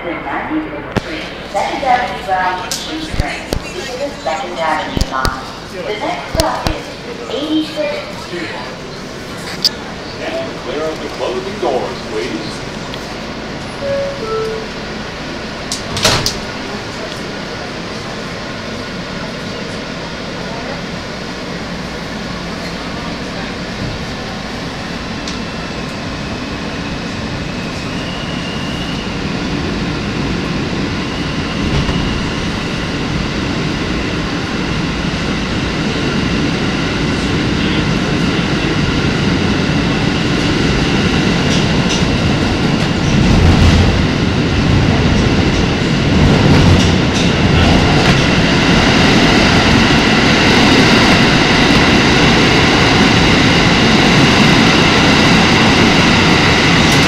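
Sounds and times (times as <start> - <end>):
train wheels rumbling on rail: 0.3 - 57.0.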